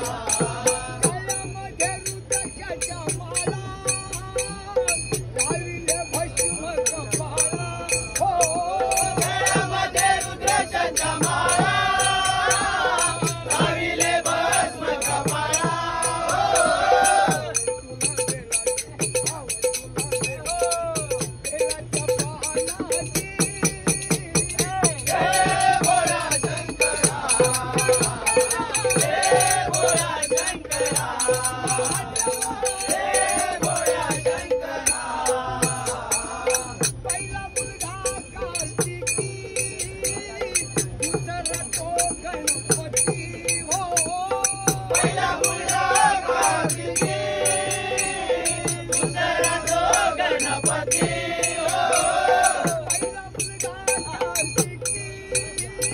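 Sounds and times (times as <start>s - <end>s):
hand cymbals clashing: 0.0s - 55.9s
hand drum beat: 0.0s - 55.9s
men singing devotional song: 0.0s - 55.9s.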